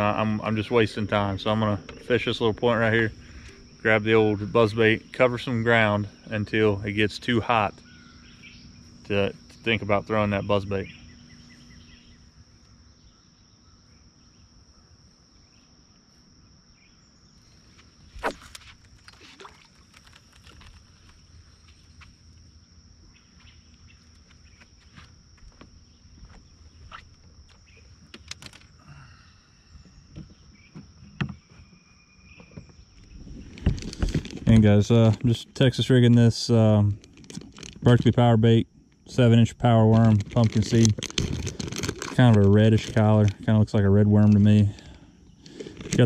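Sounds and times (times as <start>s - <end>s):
insect chirring: 0.0s - 46.0s.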